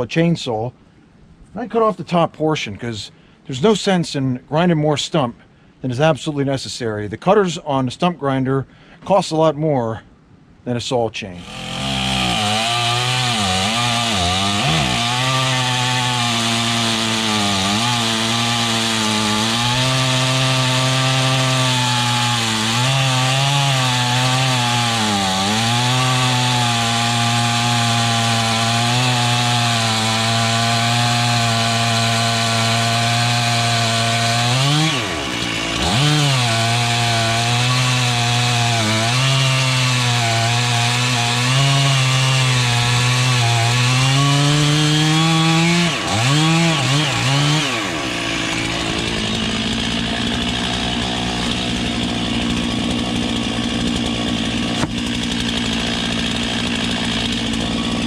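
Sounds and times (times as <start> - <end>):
chainsaw cutting wood: 11.4 - 58.0.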